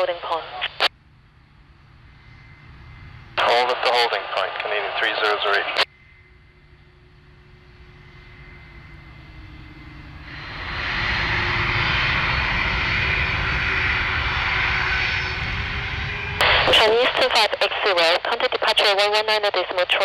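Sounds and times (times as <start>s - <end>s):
jet engines whine and rumble: 0.0s - 20.0s.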